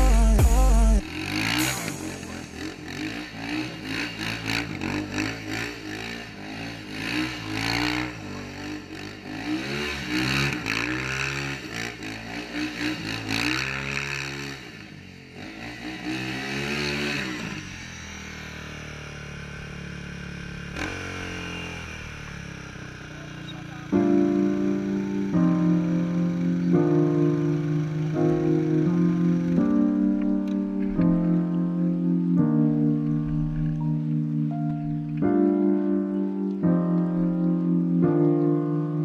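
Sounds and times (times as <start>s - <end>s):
quad engine revving: 0.0s - 32.0s.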